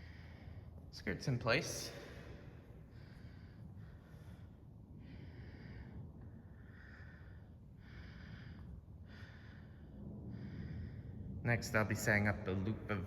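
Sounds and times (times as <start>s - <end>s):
person breathing softly: 0.0s - 0.9s, 1.8s - 11.5s
low room hum: 0.0s - 13.0s.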